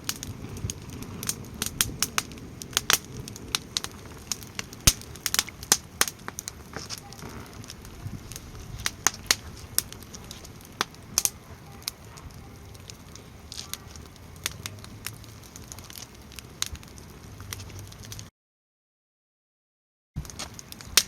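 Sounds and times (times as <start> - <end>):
campfire crackling and popping: 0.0 - 18.3, 20.2 - 21.0.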